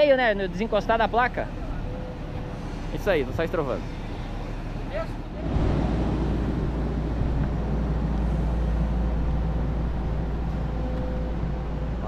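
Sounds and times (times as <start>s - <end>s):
excavator diesel engine rumbling: 0.6s - 12.0s.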